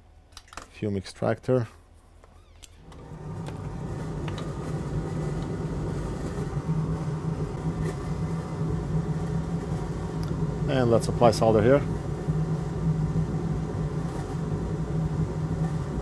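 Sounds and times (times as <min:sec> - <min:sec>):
extractor fan humming: 0:02.8 - 0:16.0.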